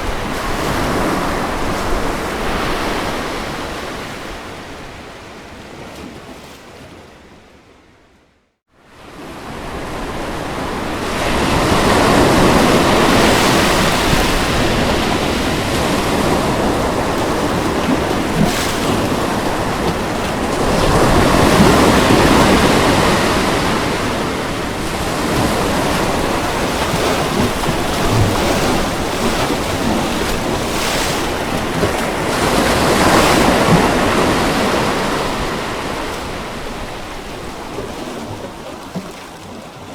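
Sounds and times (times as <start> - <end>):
ocean surf breaking on beach: 0.0 - 5.8, 8.9 - 39.9.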